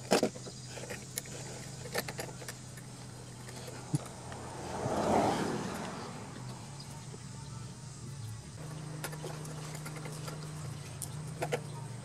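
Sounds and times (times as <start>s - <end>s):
engine parts clicking and clinking: 0.0s - 4.9s, 5.7s - 12.0s.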